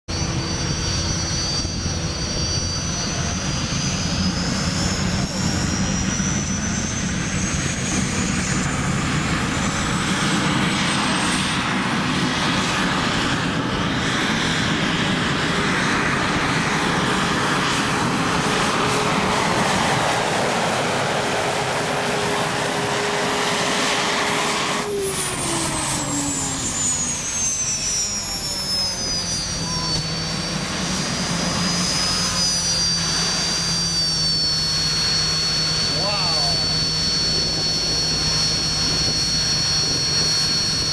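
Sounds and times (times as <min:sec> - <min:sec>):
tractor engine with high whine: 0:00.1 - 0:40.9.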